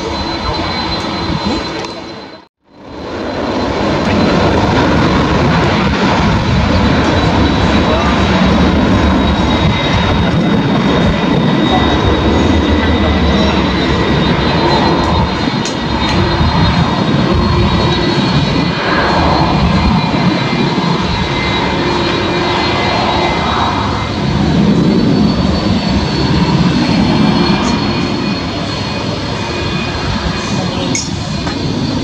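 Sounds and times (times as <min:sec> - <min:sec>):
jet engines rumbling with whine: 0:00.0 - 0:32.0.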